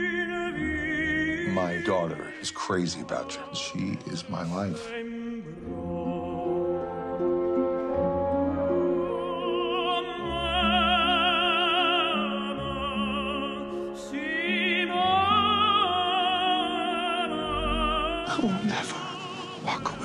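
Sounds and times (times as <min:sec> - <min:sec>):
operatic singing with vibrato: 0:00.0 - 0:20.0.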